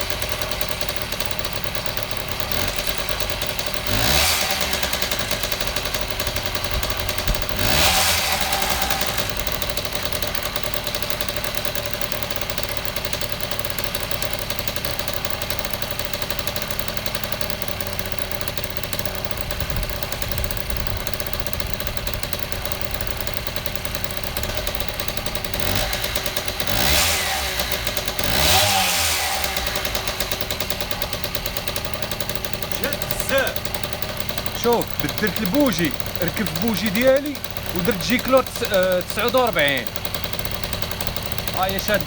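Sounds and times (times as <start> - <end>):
moped engine idling and revving: 0.0 - 42.0.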